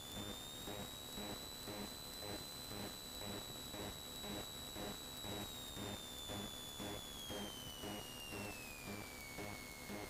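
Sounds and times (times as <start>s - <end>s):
high steady whine: 0.0s - 10.0s.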